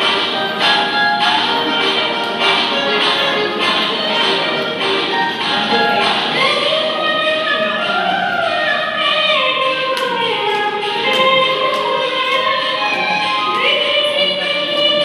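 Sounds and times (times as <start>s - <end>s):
women singing a dance song: 0.0s - 15.0s.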